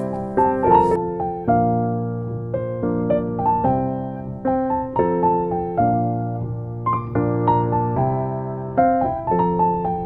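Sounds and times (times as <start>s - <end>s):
soft electric piano chords: 0.0s - 10.0s.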